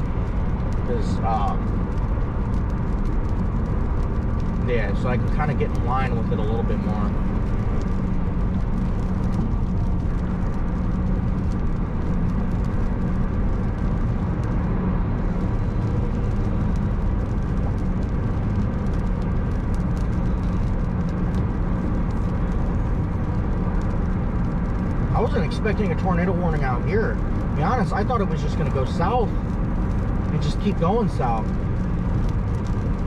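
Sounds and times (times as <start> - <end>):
car cabin road rumble: 0.0 - 33.0.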